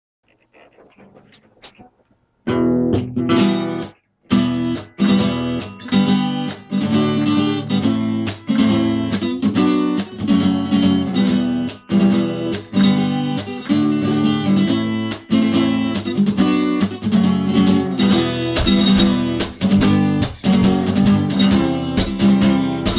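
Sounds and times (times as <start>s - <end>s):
acoustic guitar strumming: 0.5s - 22.9s.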